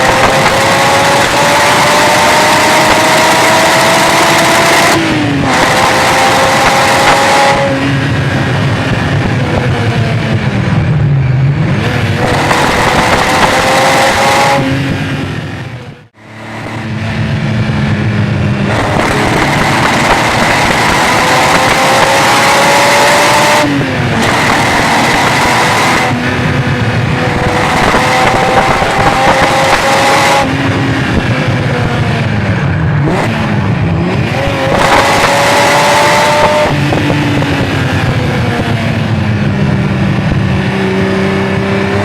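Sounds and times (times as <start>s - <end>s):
car engine pulling hard: 0.0s - 42.0s.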